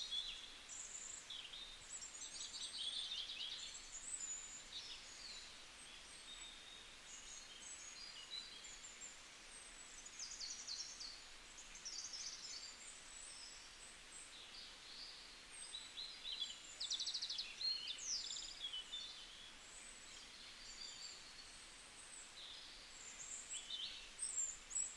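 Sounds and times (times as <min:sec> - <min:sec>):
faint steady hiss: 0:00.0 - 0:24.9
small birds chirping: 0:00.0 - 0:24.9.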